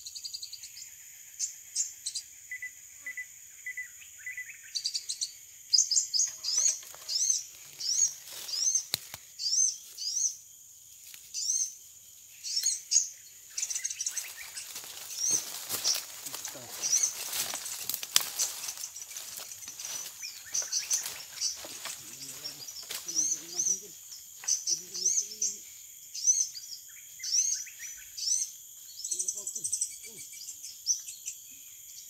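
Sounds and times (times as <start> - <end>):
high insect drone: 0.0 - 32.0
small birds chirping: 0.0 - 32.0.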